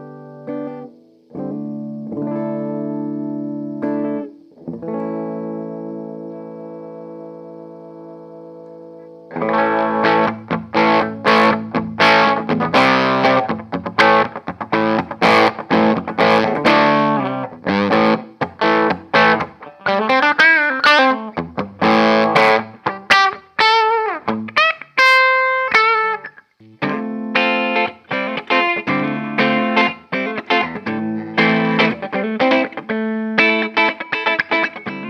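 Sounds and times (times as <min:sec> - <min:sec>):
distorted electric guitar: 0:00.0 - 0:35.0.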